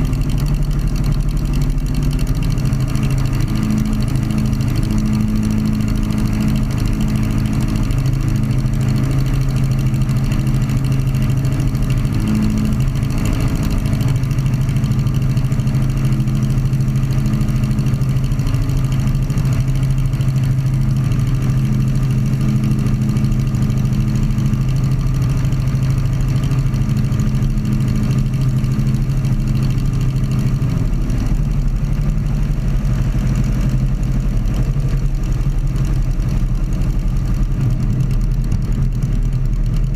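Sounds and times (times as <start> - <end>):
aircraft engine droning: 2.5 - 38.6.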